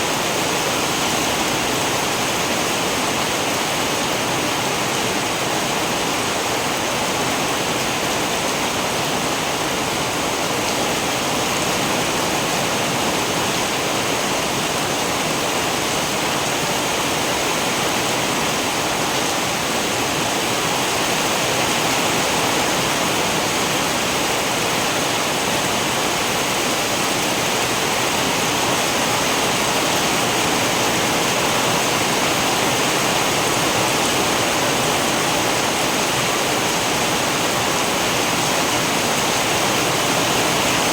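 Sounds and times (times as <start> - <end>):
heavy steady rain: 0.0 - 40.9.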